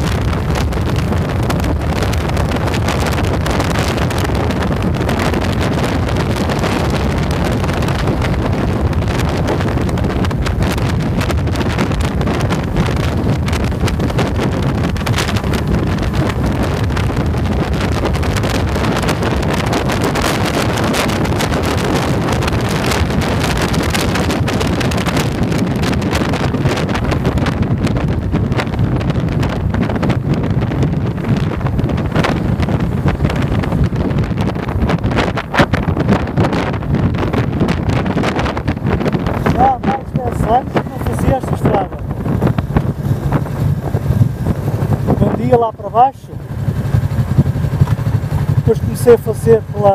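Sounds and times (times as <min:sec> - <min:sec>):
motorcycle engine: 0:00.0 - 0:49.9
road noise: 0:00.0 - 0:49.9
wind rushing over microphone: 0:00.0 - 0:49.9.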